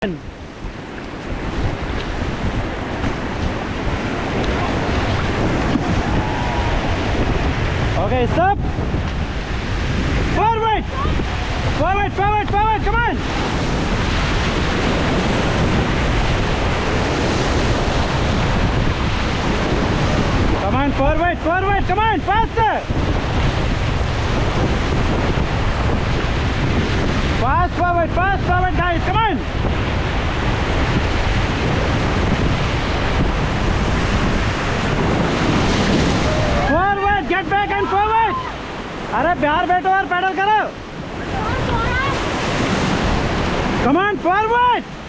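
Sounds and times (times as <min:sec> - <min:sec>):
whitewater rapids rushing: 0:00.0 - 0:45.0
wind buffeting microphone: 0:00.0 - 0:45.0.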